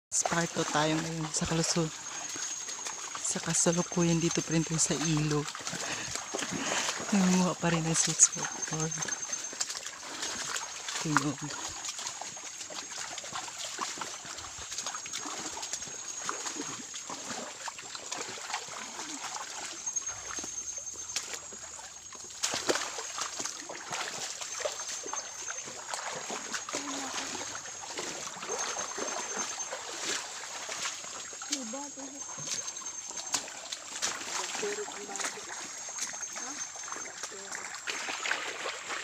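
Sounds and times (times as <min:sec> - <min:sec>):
feet splashing in water: 0:00.1 - 0:39.0
leaves and brush rustling: 0:00.1 - 0:39.0.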